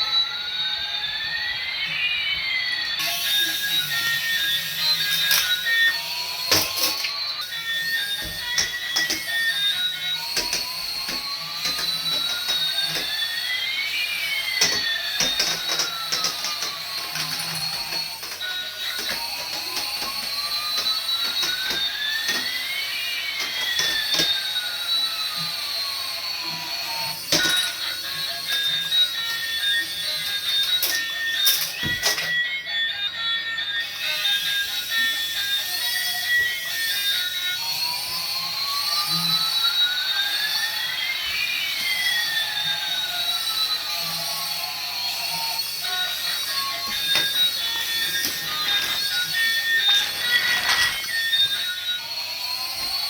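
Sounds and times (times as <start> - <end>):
electronic two-tone sliding whine: 0.0 - 53.0.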